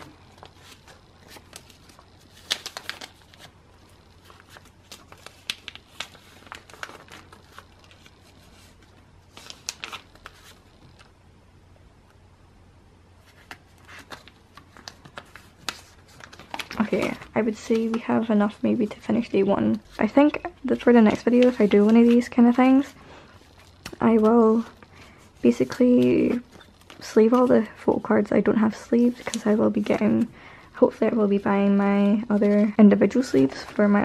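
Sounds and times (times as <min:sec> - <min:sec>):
plastic sleeves crinkling and rustling: 0:00.0 - 0:11.1, 0:13.2 - 0:34.0.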